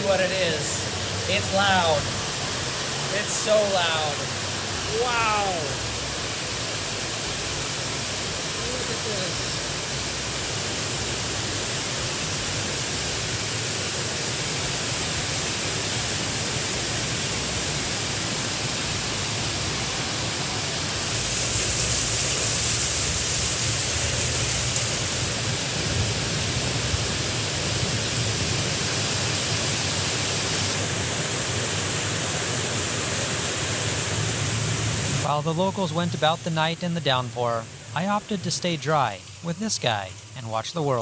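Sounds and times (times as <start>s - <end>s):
heavy rain downpour: 0.0s - 41.0s.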